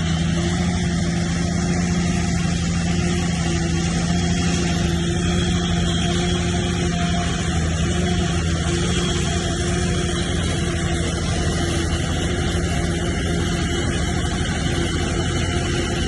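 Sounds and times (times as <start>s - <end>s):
heavy diesel engine droning: 0.0s - 16.0s
high engine whine: 0.0s - 16.0s.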